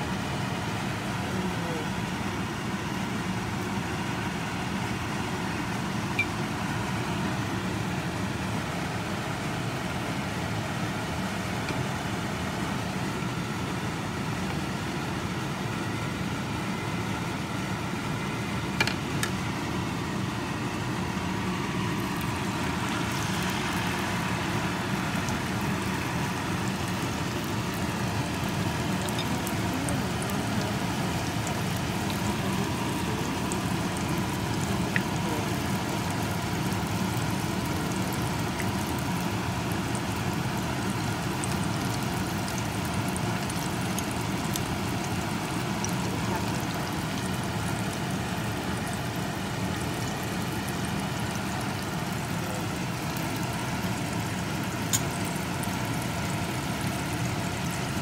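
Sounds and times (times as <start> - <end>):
steady mechanical hum: 0.0 - 58.0
hot oil sizzling: 0.1 - 58.0.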